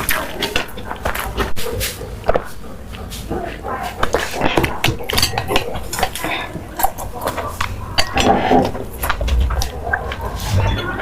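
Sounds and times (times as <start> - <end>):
utensils clinking against a dish: 0.0 - 11.0.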